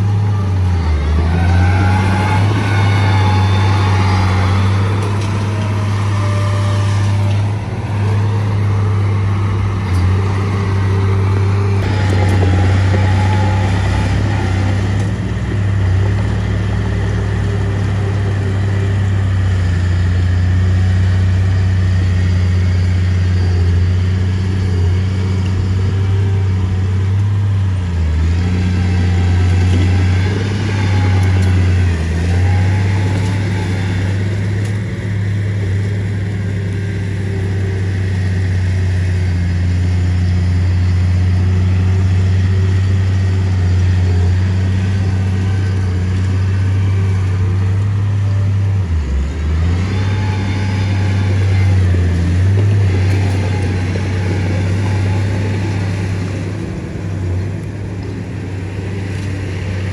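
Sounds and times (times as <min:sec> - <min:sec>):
heavy diesel engine humming: 0:00.0 - 0:59.9.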